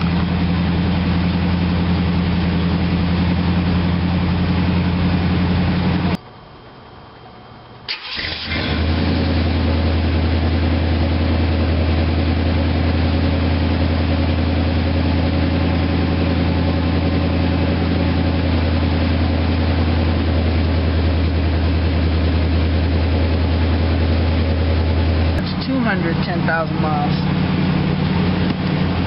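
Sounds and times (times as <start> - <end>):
car engine idling: 0.0 - 6.2, 7.9 - 29.0.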